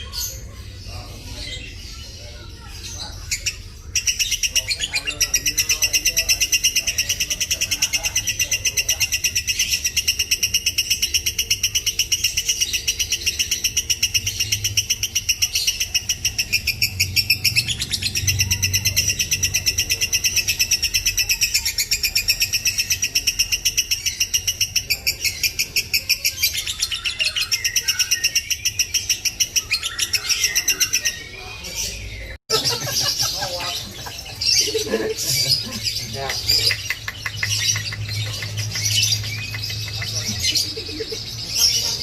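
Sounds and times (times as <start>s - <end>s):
lovebird chirping: 2.6s - 42.0s.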